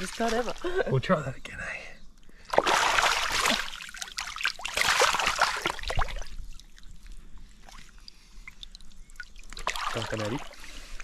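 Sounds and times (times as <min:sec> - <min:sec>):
water splashing and sloshing: 0:00.0 - 0:00.9, 0:02.3 - 0:11.0
water trickling: 0:00.0 - 0:01.1, 0:02.2 - 0:11.0.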